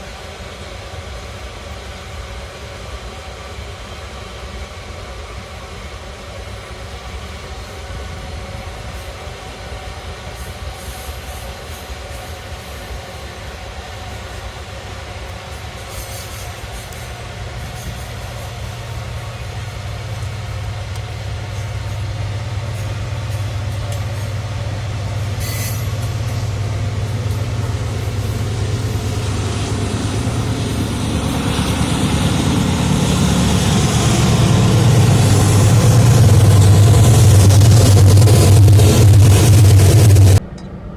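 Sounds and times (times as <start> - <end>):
train rolling rail noise: 0.0 - 40.9
locomotive engine hum: 5.5 - 40.9.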